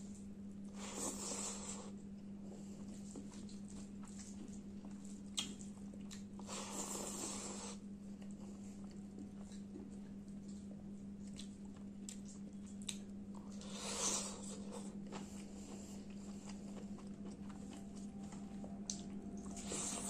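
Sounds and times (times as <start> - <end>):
steady low hum: 0.0 - 20.0
biting and chewing food: 2.8 - 20.0.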